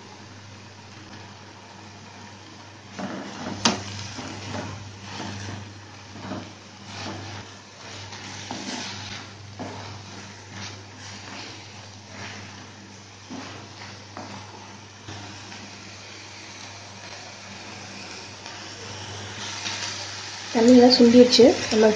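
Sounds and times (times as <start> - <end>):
wooden spatula scraping a pan: 2.9 - 21.9.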